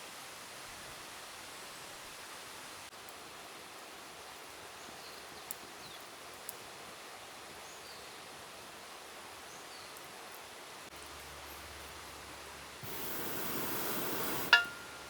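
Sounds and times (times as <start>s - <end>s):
soft forest hiss: 0.0s - 15.0s.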